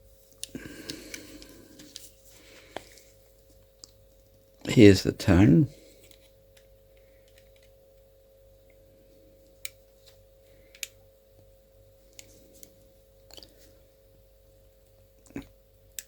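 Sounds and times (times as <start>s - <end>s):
steady faint hum: 0.0s - 16.0s.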